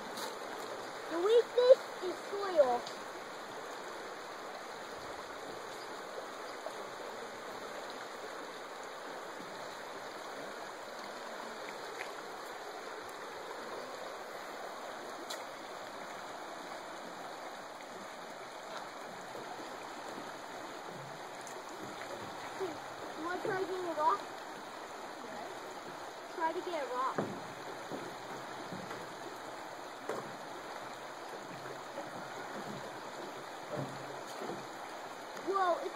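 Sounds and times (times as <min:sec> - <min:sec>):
creek flowing over stones: 0:00.0 - 0:35.9.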